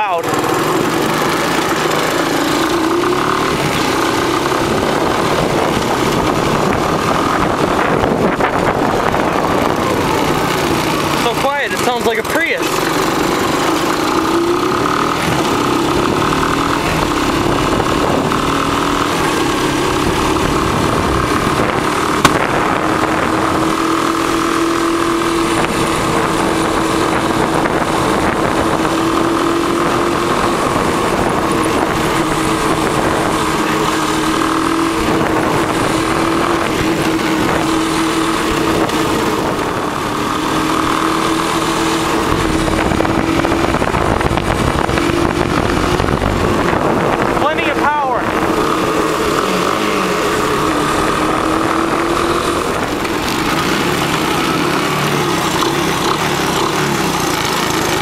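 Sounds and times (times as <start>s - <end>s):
single-cylinder engine running: 0.0s - 58.0s.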